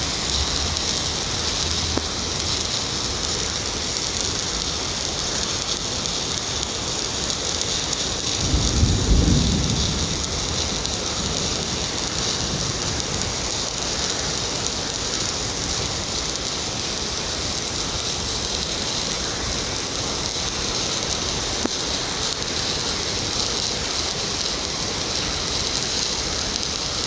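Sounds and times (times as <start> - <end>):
welding arc crackling sizzle: 0.0 - 27.0.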